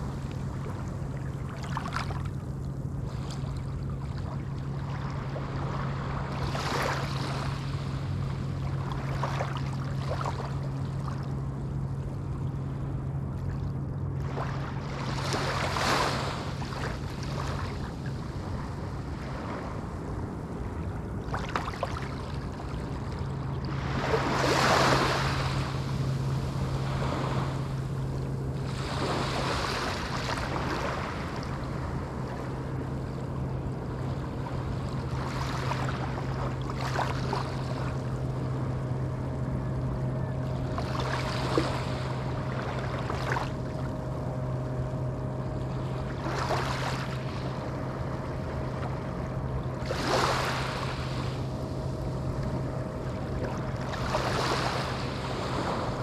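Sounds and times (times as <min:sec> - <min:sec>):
small waves breaking on shore: 0:00.0 - 0:56.0
steady low hum: 0:00.0 - 0:56.0.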